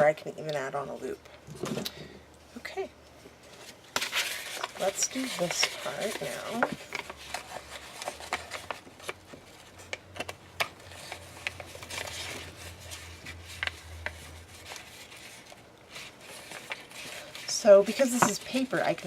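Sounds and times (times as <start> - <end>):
hands rubbing and rustling materials: 3.5 - 19.0.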